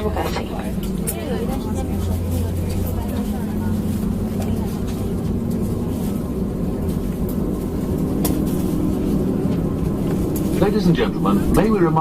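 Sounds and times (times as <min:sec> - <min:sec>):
airplane cabin hum and rumble: 0:00.0 - 0:12.0.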